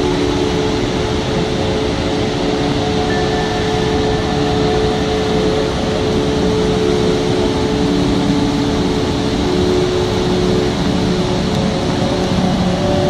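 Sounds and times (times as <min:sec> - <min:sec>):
faint steady hum: 0:00.0 - 0:13.0
river torrent roaring: 0:00.0 - 0:13.0.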